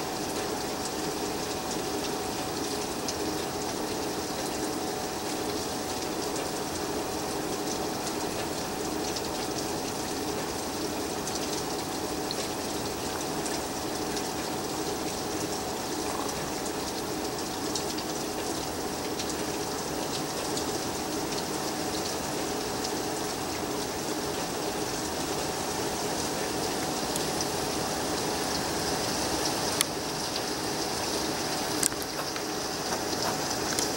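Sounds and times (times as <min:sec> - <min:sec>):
steady rain falling: 0:00.0 - 0:33.9
sharp drip ticks: 0:00.1 - 0:28.7, 0:29.8 - 0:33.9.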